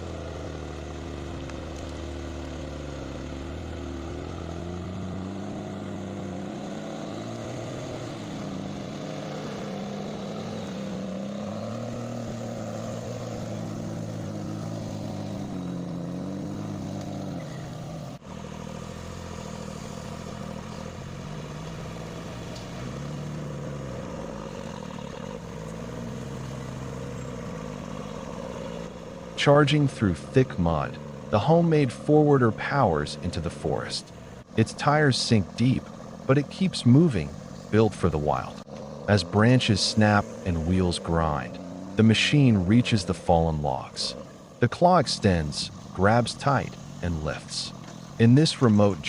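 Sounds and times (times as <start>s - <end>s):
heavy machine engine revving: 0.0s - 49.0s.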